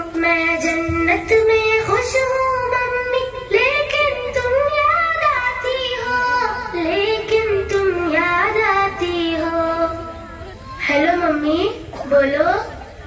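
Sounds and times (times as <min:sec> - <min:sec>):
girl singing long held notes: 0:00.0 - 0:11.7.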